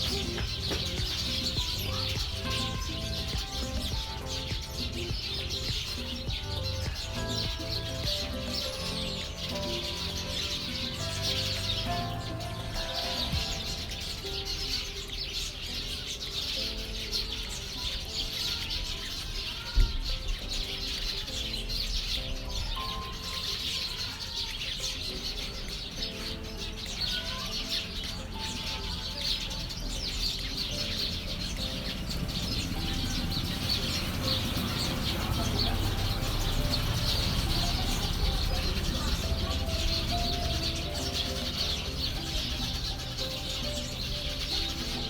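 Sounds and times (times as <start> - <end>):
small birds chirping and twittering: 0.0 - 45.0
soft background music: 0.0 - 45.0.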